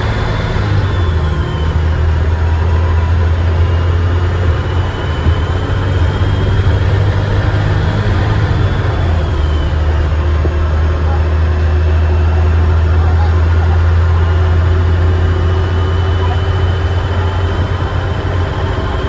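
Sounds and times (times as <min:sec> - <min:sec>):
bus diesel engine droning: 0:00.0 - 0:19.0
faint turbo whistle: 0:00.0 - 0:19.0.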